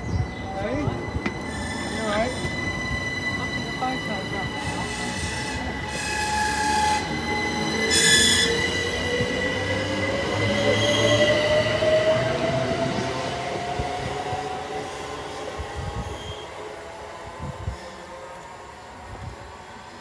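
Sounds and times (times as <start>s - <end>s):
train squealing: 0.0s - 16.8s.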